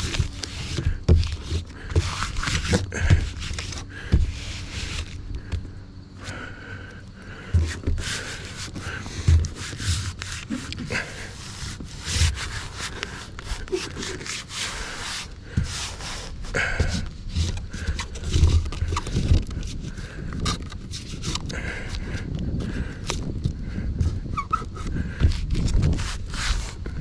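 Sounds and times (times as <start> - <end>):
rubbing and scraping: 0.0 - 5.6, 7.3 - 23.3, 24.0 - 27.0.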